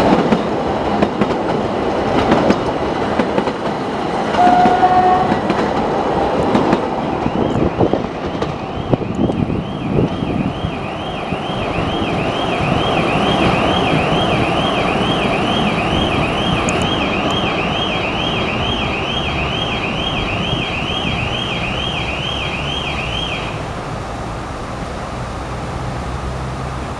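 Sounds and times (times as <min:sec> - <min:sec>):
train rumbling along track: 0:00.0 - 0:26.9.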